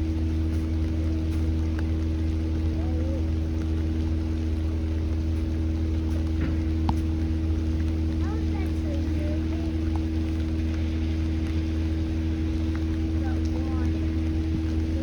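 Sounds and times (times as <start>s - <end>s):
low ship machinery hum: 0.0s - 15.0s.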